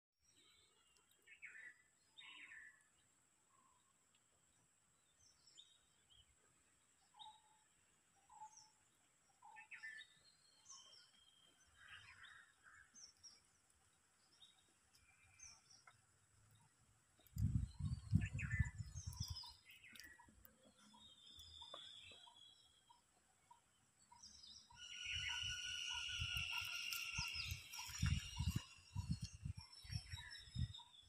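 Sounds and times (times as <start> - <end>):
faint birds chirping: 0.2 - 31.0.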